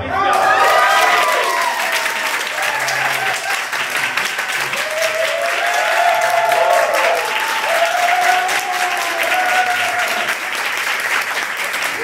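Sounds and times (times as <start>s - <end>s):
audience applauding: 0.2s - 12.0s.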